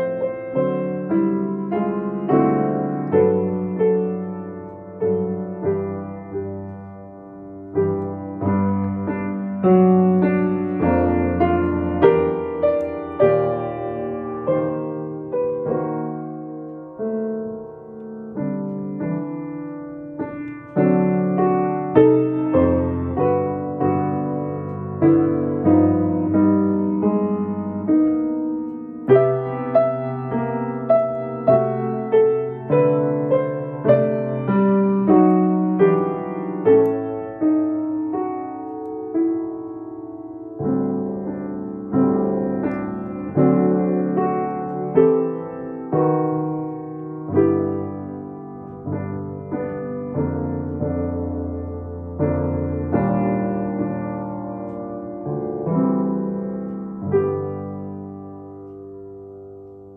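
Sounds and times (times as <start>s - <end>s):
solo piano jazz ballad: 0.0s - 59.9s.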